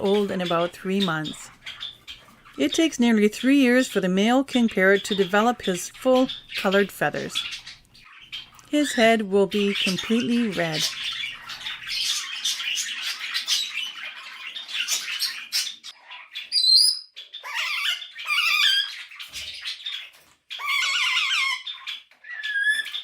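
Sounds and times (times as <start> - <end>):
parrots chattering and squawking: 0.0 - 23.0.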